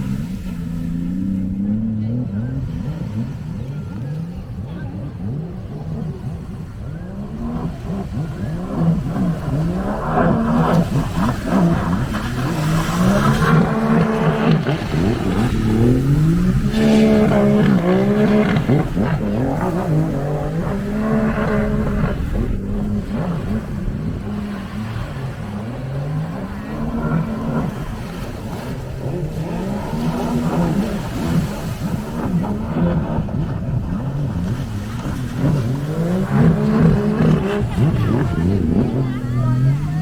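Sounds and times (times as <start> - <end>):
jet ski engines racing: 0.0 - 40.0.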